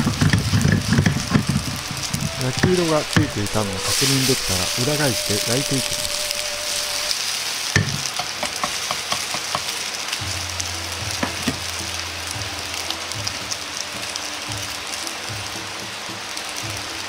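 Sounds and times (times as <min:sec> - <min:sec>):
oil spattering crackles: 0:00.0 - 0:16.8
noodles sizzling in oil: 0:00.0 - 0:17.0.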